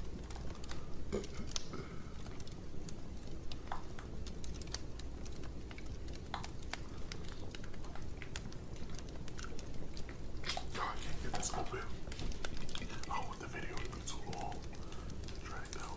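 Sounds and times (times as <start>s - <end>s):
low steady hum: 0.0s - 15.9s
crunchy eating: 0.2s - 15.9s.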